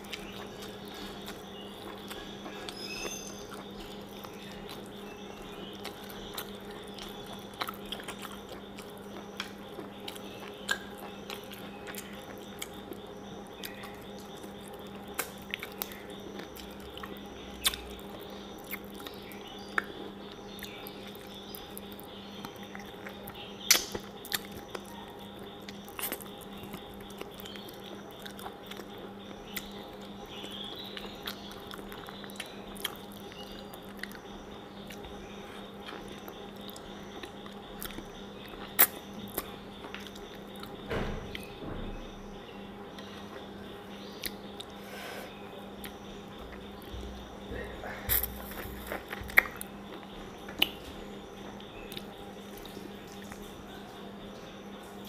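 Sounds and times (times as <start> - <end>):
wet chewing clicks and smacks: 0.0 - 41.6, 42.9 - 44.8, 45.8 - 47.5, 48.1 - 53.5
low electrical hum: 0.0 - 55.0.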